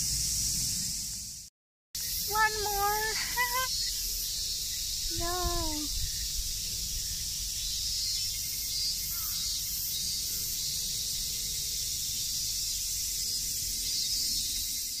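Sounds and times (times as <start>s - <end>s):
cicadas chorus: 0.0s - 15.0s.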